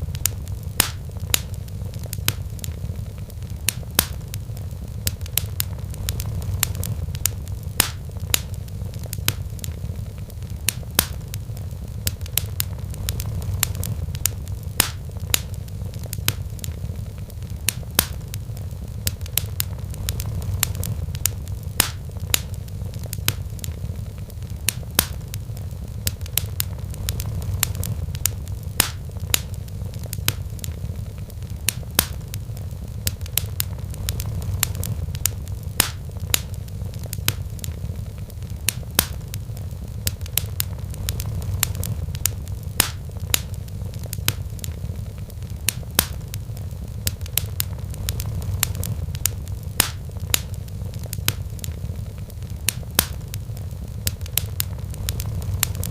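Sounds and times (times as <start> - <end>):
low fire rumble: 0.0 - 55.9
wood fire crackling and popping: 0.0 - 55.9.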